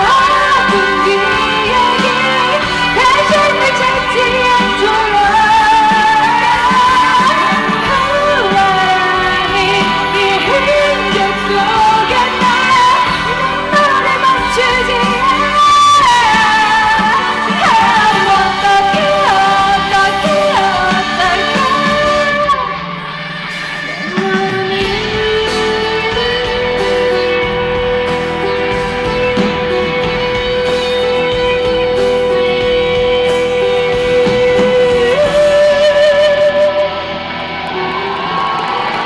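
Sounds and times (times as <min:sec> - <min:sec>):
live band playing pop ballad: 0:00.0 - 0:39.0.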